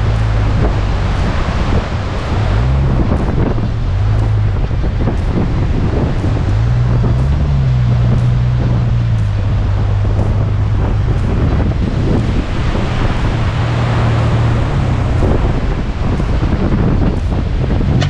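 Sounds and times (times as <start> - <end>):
car engine droning: 0.0 - 18.0
wind and track noise: 0.0 - 18.0.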